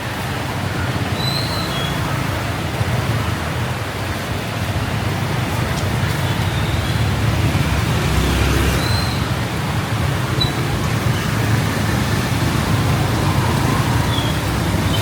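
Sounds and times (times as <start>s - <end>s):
rain and wet road hiss: 0.0s - 15.0s
traffic: 0.0s - 15.0s.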